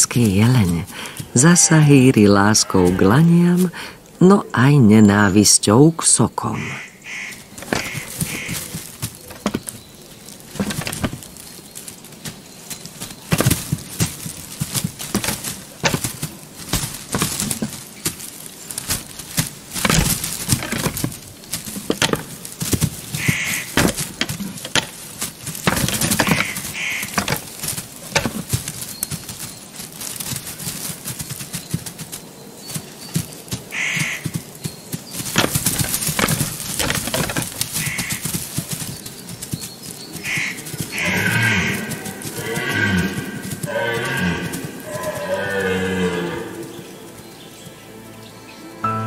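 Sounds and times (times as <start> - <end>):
twigs cracking: 0.0 - 4.4, 6.5 - 48.4
hooves trampling: 0.0 - 49.0
antlers clashing: 7.1 - 46.8.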